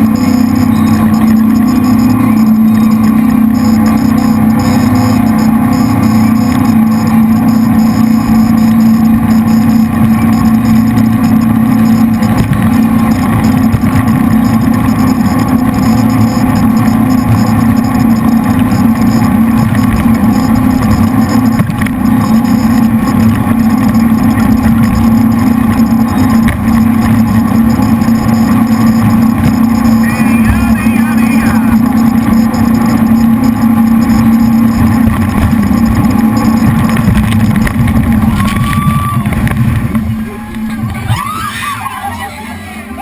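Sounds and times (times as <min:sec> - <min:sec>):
boat engines droning: 0:00.0 - 0:43.0.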